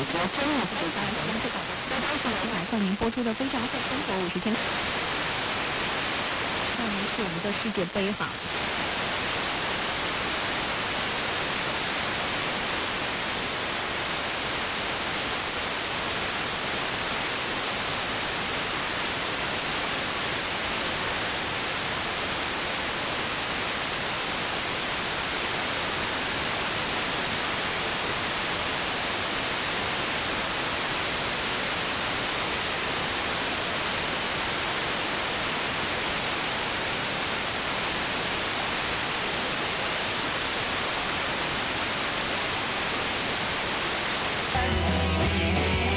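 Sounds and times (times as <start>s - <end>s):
radio static hiss: 0.0s - 45.9s.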